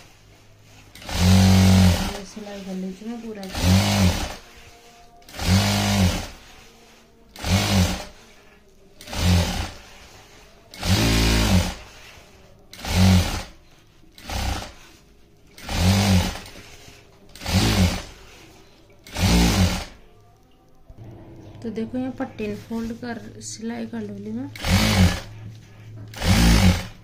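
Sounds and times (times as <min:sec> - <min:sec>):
sewing machine stitching: 0:00.0 - 0:20.0, 0:24.5 - 0:27.0.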